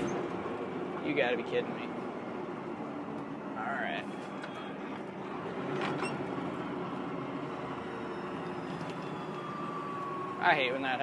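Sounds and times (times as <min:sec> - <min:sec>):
truck engine running: 0:00.0 - 0:11.0
tyre and road noise: 0:00.0 - 0:11.0.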